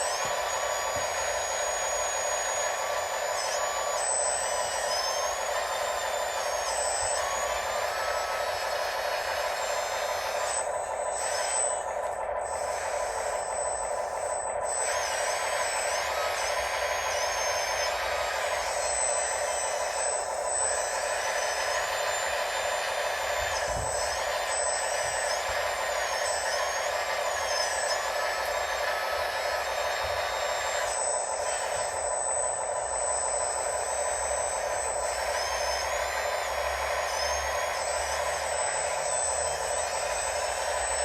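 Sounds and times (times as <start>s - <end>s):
electric motors whirring and whining: 0.0s - 41.0s.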